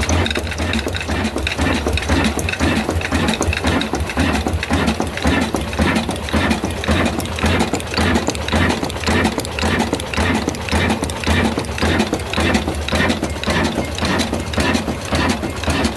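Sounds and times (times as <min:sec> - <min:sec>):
diesel engine chugging: 0:00.0 - 0:15.9.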